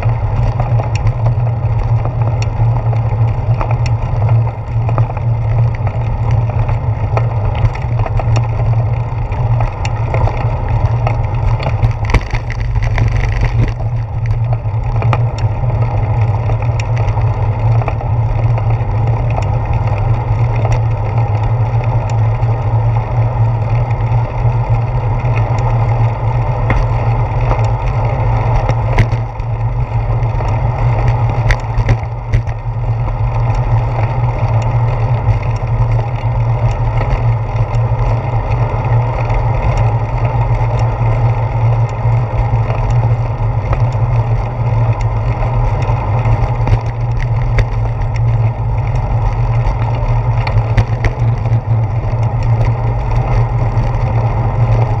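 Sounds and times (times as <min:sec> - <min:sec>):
bicycle clicks and knocks: 0:00.0 - 0:55.0
wind and riding rumble: 0:00.0 - 0:55.0.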